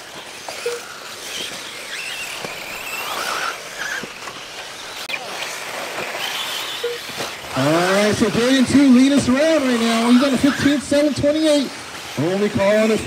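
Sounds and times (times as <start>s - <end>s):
electric motor whines: 0.0s - 13.0s
tyres on dirt: 0.0s - 13.0s.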